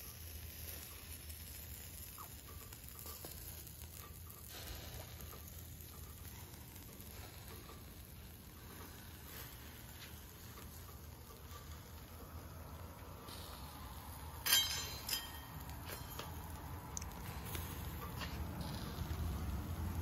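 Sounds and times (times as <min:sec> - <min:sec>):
meat sizzling on a grill: 0:00.0 - 0:20.0
steady low hum: 0:00.0 - 0:20.0.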